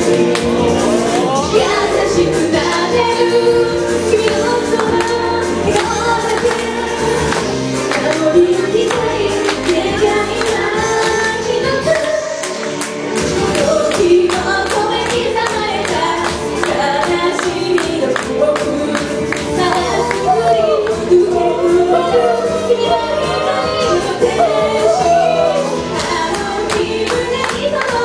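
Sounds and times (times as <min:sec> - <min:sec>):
pop music through speakers: 0:00.0 - 0:28.0
woman singing into microphone: 0:01.1 - 0:12.4, 0:13.3 - 0:28.0.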